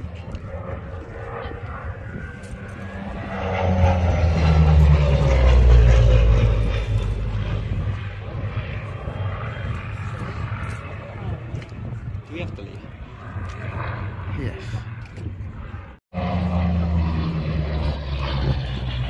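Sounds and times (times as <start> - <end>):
propeller plane passing low: 0.0 - 19.0.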